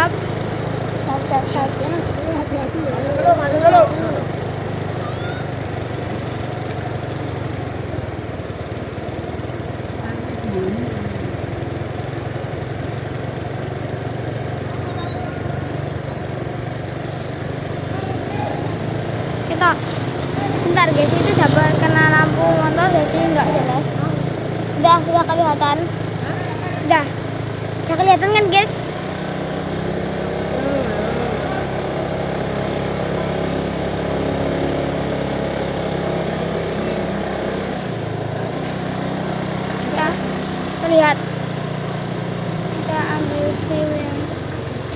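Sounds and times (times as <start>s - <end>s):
road and traffic noise: 0.0s - 44.9s
vehicle engine running: 0.0s - 44.9s.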